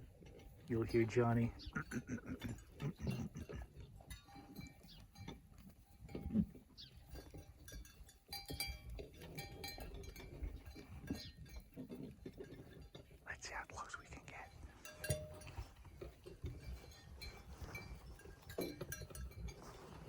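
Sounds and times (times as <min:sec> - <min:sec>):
sheep chewing hay: 0:00.0 - 0:20.0.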